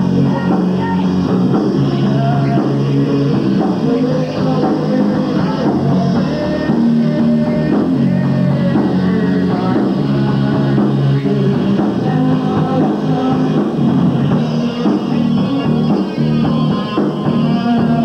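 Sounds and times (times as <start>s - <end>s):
drum kit: 0.0s - 18.0s
rock band playing live: 0.0s - 18.0s.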